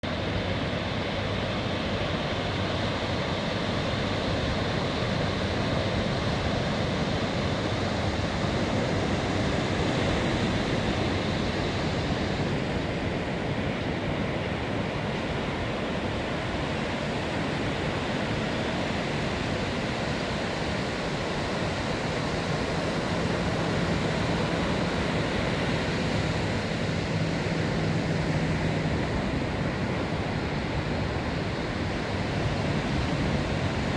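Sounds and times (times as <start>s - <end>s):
ocean surf on beach: 0.0s - 33.9s.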